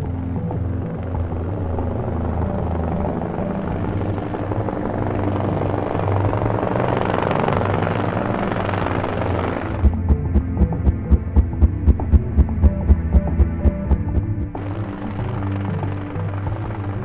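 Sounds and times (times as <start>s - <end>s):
helicopter engine hum: 0.0s - 17.0s
helicopter rotor rushing: 0.1s - 17.0s.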